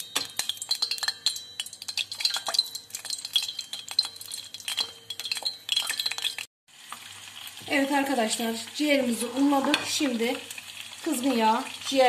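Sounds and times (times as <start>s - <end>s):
food crackling in hot oil: 0.0s - 12.0s.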